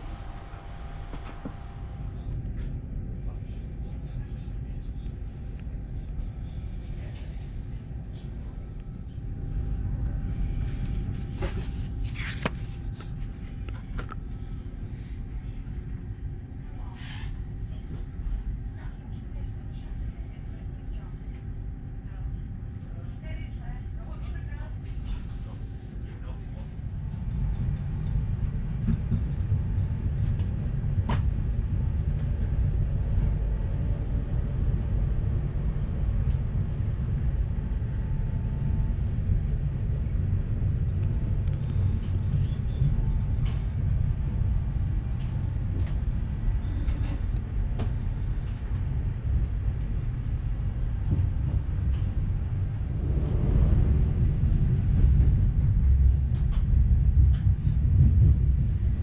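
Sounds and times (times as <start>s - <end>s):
train running low rumble: 0.0s - 59.0s.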